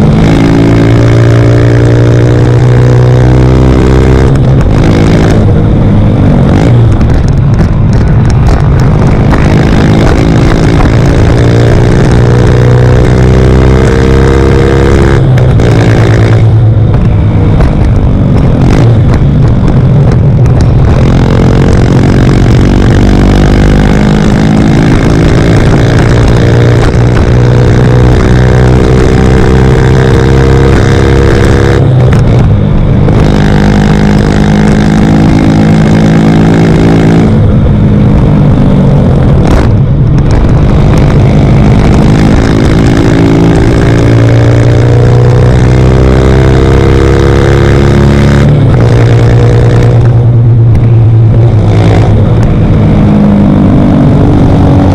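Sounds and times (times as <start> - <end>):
motorcycle engine at full throttle: 0.0 - 54.9.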